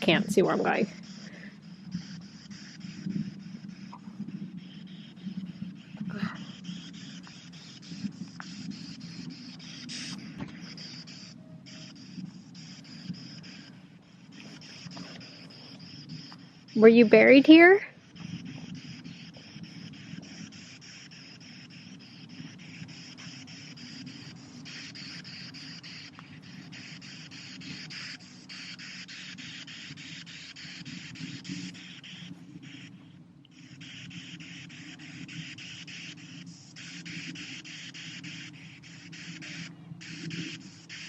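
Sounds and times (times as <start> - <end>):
radio static hissing: 0.0 - 41.0.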